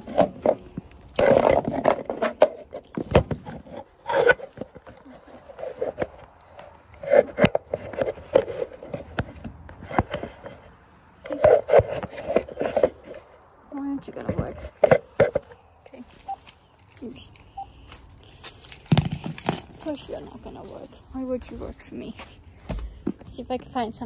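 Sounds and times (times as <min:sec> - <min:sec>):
phone handling scrapes and rustles: 0:00.0 - 0:13.5, 0:14.1 - 0:23.5.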